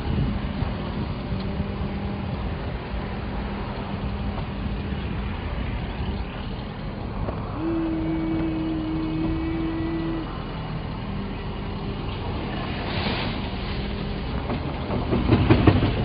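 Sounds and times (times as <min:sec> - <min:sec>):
steady whine: 0:00.0 - 0:16.0
vehicle engine running: 0:00.0 - 0:16.0.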